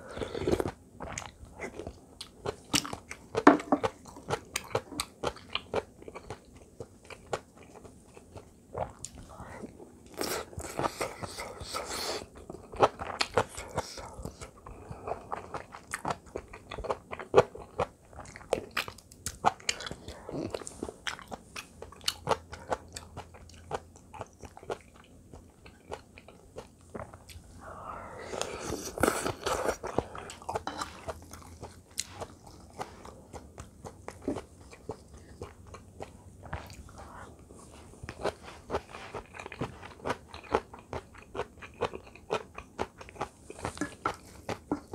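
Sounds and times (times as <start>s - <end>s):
chewing and crunching food: 0.0s - 44.9s.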